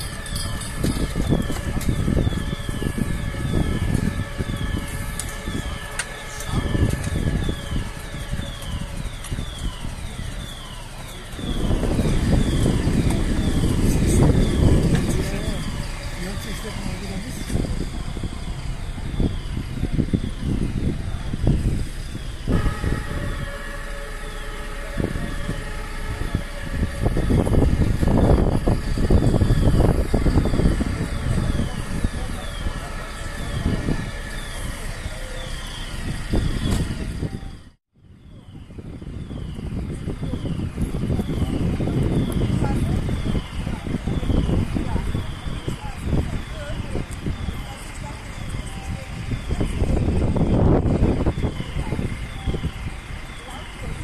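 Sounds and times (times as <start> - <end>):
low rumble: 0.0 - 53.1
fire alarm falling tone: 0.0 - 54.0.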